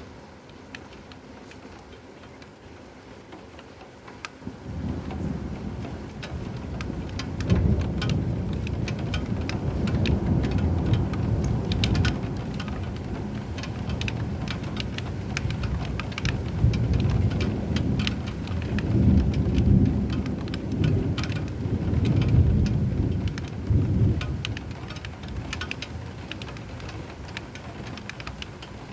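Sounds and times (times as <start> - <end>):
steady rain drops: 0.0 - 28.9
low thunder rumbling: 4.4 - 28.9.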